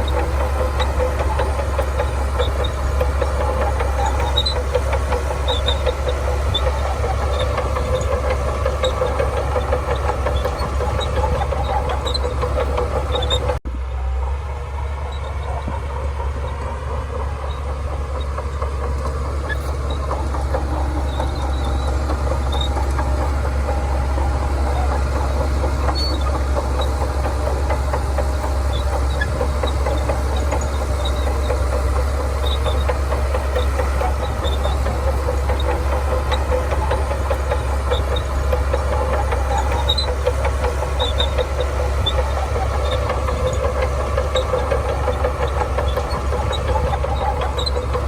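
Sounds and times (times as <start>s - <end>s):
bulldozer diesel engine rumbling: 0.0s - 48.0s.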